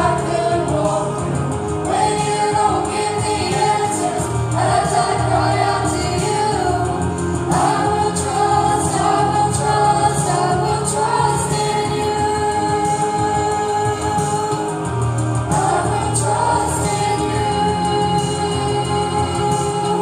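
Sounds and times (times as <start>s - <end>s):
group of young people singing: 0.0s - 20.0s
musical accompaniment: 0.0s - 20.0s.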